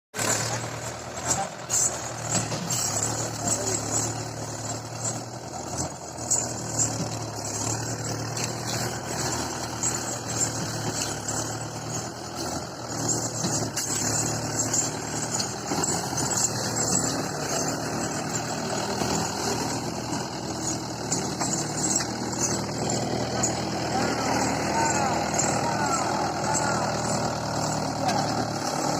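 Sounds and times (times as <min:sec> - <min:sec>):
tractor engine running: 0:00.1 - 0:28.9.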